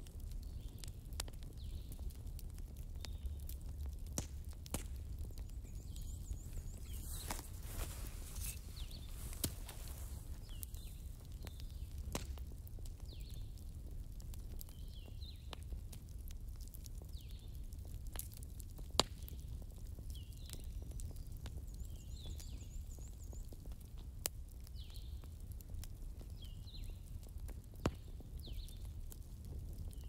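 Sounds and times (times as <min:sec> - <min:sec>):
fire popping: 0:00.0 - 0:30.0
wood fire crackling: 0:00.0 - 0:30.0.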